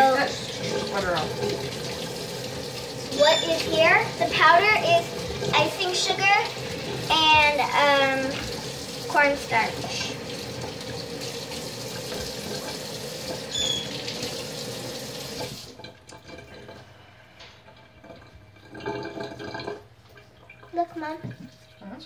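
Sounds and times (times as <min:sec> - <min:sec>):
water running from a tap: 0:00.0 - 0:22.0.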